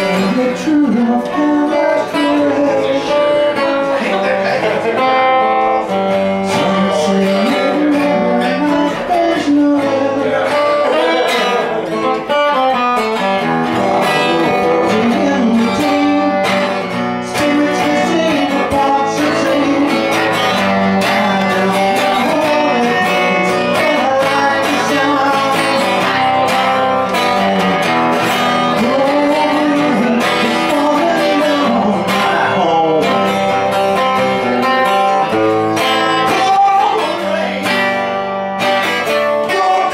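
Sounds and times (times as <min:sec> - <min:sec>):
guitar strumming: 0:00.0 - 0:39.9.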